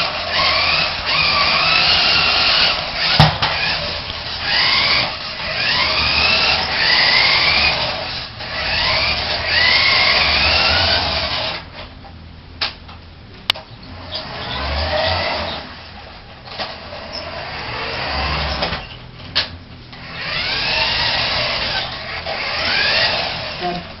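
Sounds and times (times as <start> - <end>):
remote control truck motor whining: 0.0 - 11.7, 13.9 - 15.8, 16.5 - 19.0, 20.0 - 23.9.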